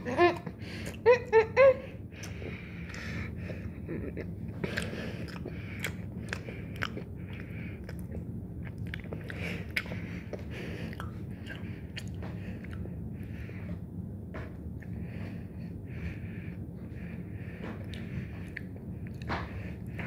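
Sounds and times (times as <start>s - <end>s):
steady low hum: 0.0s - 20.0s
person chewing chocolate: 2.2s - 15.2s, 16.2s - 20.0s.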